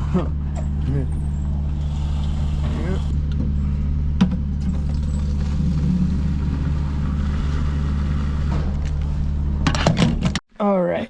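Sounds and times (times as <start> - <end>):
vehicle engine drone: 0.0 - 9.9.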